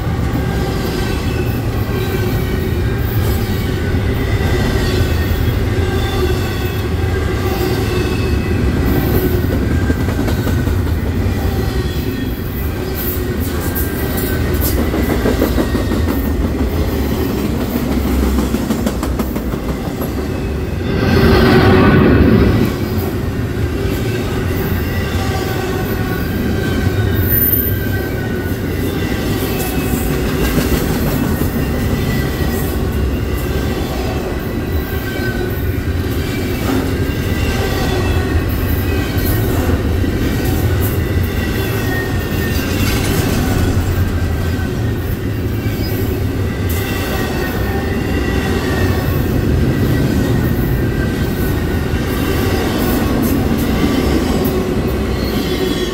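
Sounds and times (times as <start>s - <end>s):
freight train cars rumbling: 0.0s - 55.9s.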